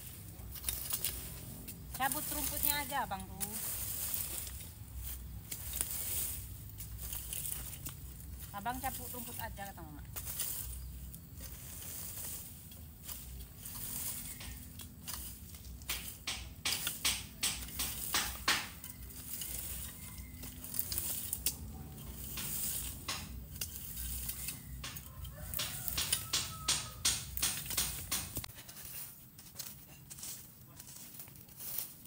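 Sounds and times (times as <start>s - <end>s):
hoe scraping through weeds and soil: 0.0s - 32.0s.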